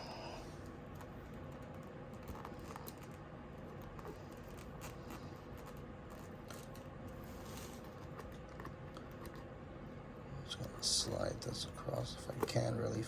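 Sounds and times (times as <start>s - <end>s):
steady low hum: 0.0s - 13.0s
light clicks and scratches: 0.9s - 9.5s, 10.6s - 13.0s.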